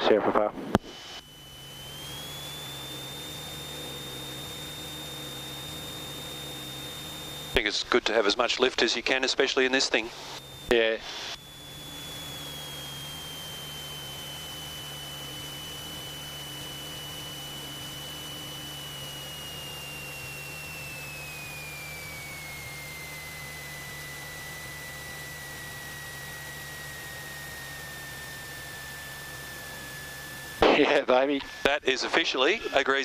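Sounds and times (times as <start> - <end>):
high whine: 0.0 - 33.0
aircraft engine and propeller: 0.8 - 33.0.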